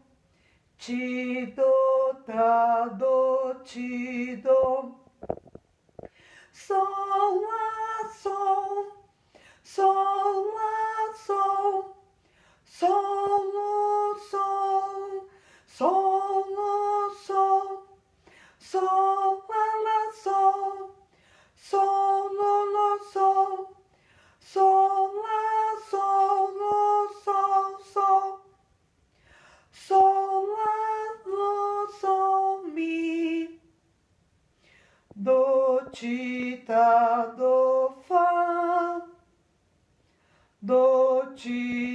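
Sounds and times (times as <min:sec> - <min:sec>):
woman singing unaccompanied: 0:00.8 - 0:05.3, 0:06.6 - 0:12.1, 0:12.7 - 0:18.0, 0:18.6 - 0:28.6, 0:29.7 - 0:33.6, 0:35.2 - 0:39.3, 0:40.6 - 0:41.9.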